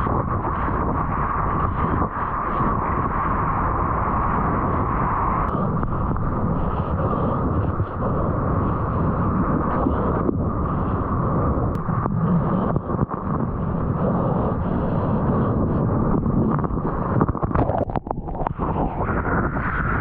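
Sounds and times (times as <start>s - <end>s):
muffled ocean water rushing: 0.0s - 20.0s
muffled wind noise: 0.0s - 20.0s.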